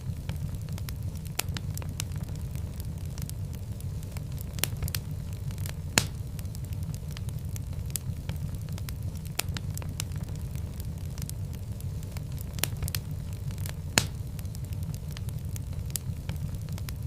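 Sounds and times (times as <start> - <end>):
fire crackling: 0.0 - 17.0
loud pop of fire: 0.0 - 17.0.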